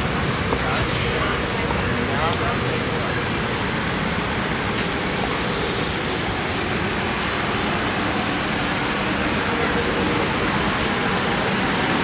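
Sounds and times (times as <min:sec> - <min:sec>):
road traffic hiss: 0:00.0 - 0:12.0.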